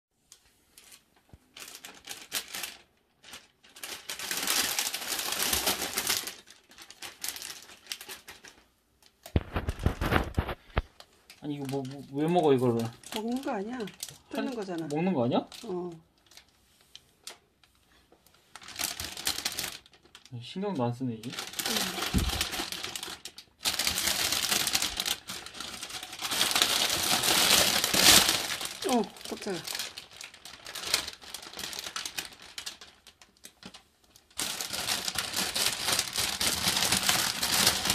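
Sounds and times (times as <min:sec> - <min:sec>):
plastic bag crinkling: 0:00.4 - 0:37.9.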